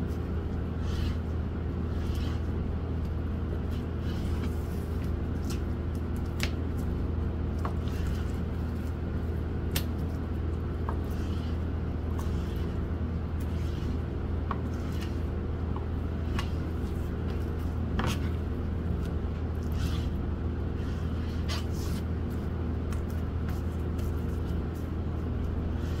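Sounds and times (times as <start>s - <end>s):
steady low hum: 0.0s - 26.0s
meat squishing: 0.1s - 25.9s.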